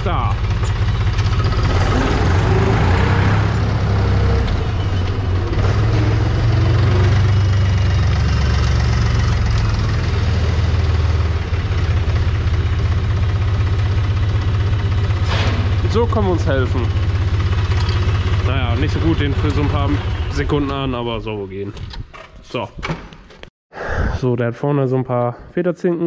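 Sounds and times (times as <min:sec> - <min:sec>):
tractor diesel engine rumbling: 0:00.0 - 0:22.0.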